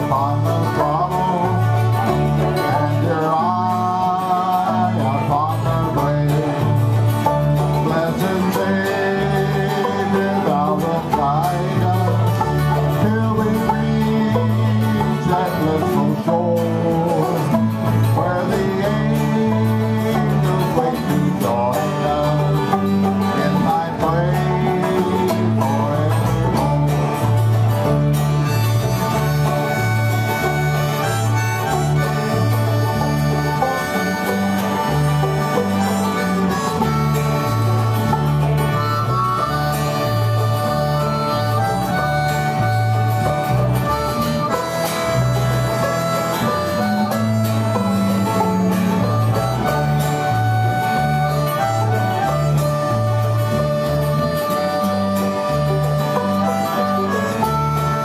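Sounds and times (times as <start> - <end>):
bluegrass band playing: 0.0 - 58.0
electric bass: 0.0 - 58.0
harmonica: 0.0 - 58.0.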